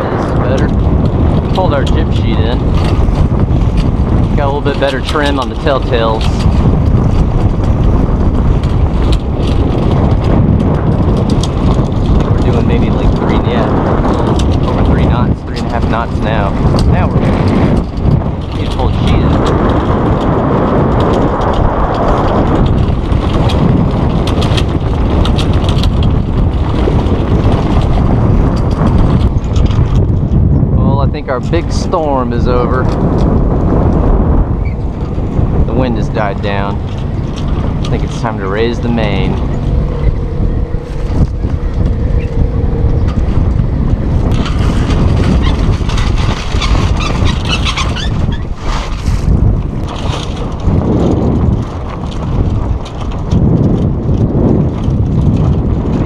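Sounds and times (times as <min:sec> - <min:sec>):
sail cloth rustling and crackling: 0:00.0 - 0:56.0
water rushing along hull: 0:00.0 - 0:56.0
wind buffeting microphone: 0:00.0 - 0:56.0.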